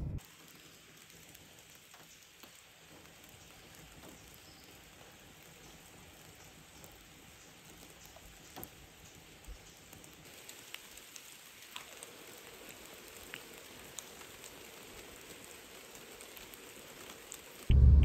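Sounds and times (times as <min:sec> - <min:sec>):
light rain: 0:00.1 - 0:18.0
raindrops ticking: 0:00.2 - 0:18.0.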